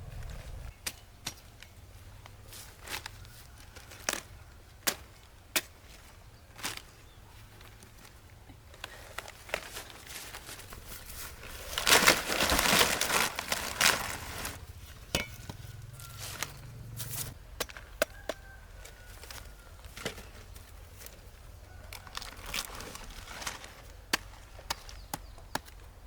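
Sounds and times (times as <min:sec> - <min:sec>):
loud crunching and crackling: 0:02.7 - 0:26.0.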